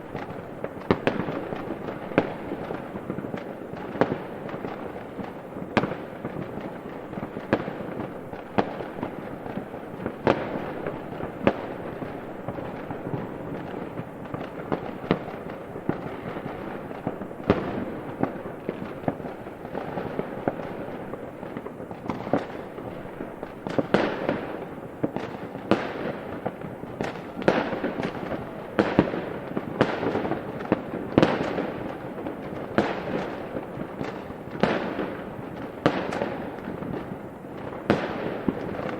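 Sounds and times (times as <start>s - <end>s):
crackle of small firework bursts: 0.0s - 38.9s.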